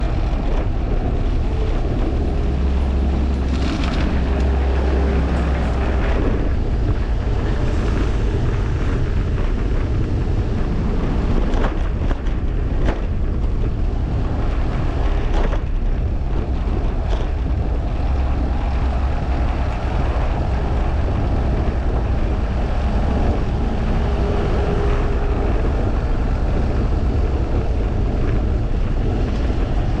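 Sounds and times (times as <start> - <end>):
wind rush and low rumble: 0.0 - 30.0.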